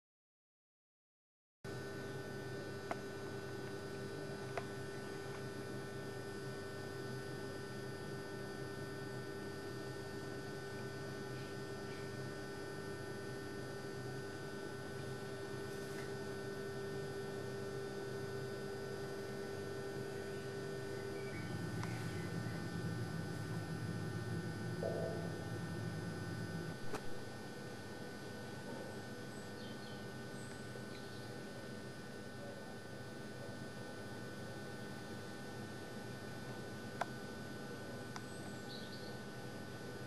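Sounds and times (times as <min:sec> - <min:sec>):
electrical hum: 0:01.7 - 0:40.0.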